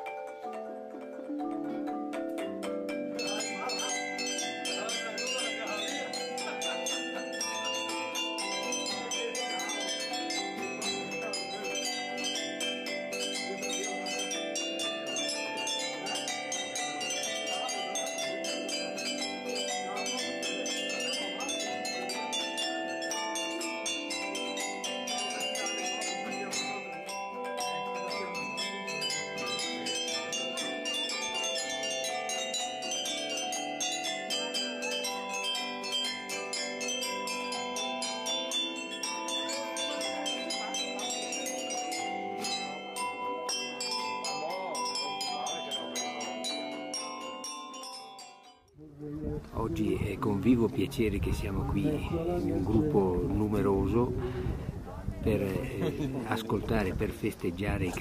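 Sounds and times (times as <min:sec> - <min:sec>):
bell-like mallet melody: 0:00.0 - 0:48.8, 0:49.4 - 0:58.0.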